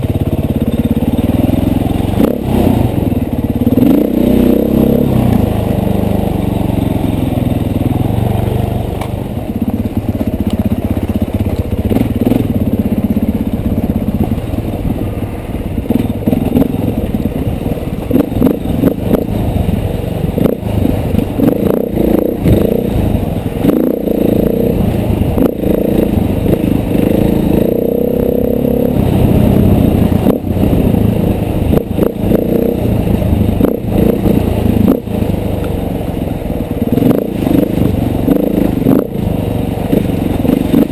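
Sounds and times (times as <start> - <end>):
dirt bike engine revving: 0.9 - 9.0, 11.2 - 14.9, 15.8 - 35.4, 36.8 - 40.9.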